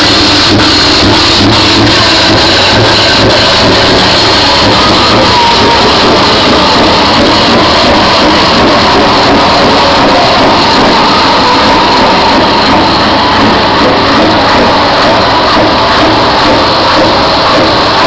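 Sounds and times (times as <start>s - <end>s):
heavy truck engines: 0.0s - 18.0s
loud music: 0.0s - 18.0s.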